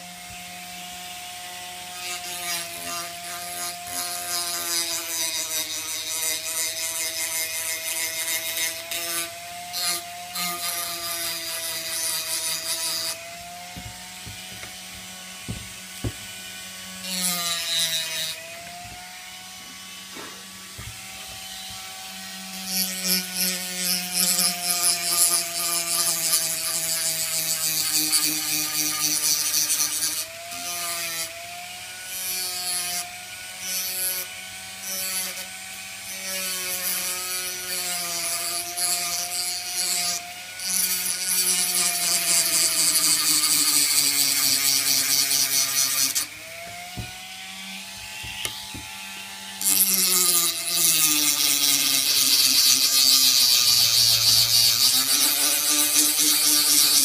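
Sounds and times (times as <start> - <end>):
rotary tool whining: 1.8 - 31.0, 33.7 - 57.0.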